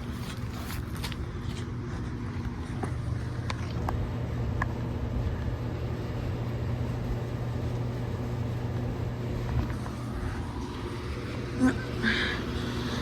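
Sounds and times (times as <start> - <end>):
compressor hum: 0.0 - 13.0
condenser fan rush: 0.0 - 13.0.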